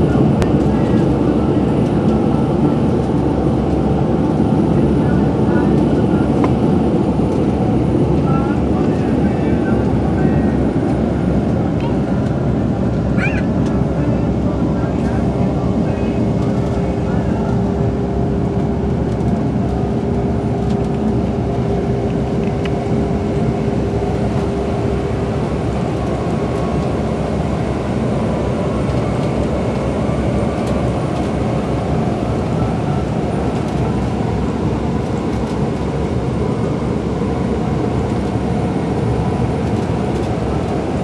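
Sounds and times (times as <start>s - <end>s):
bus engine and road drone: 0.0s - 41.0s.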